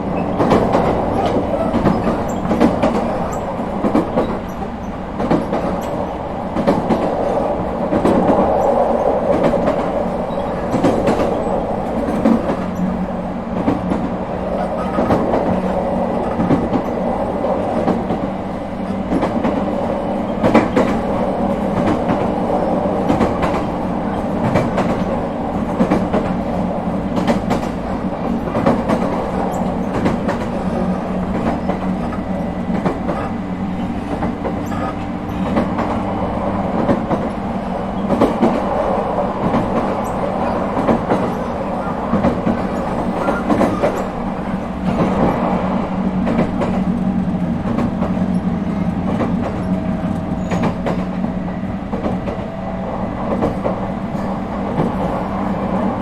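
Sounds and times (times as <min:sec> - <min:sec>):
electric train rumble and hum: 0:00.0 - 0:56.0.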